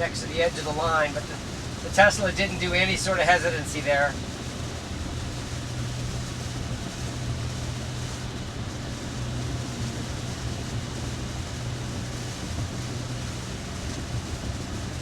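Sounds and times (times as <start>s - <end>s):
constant low hum: 0.0s - 15.0s
rain hiss: 0.0s - 15.0s.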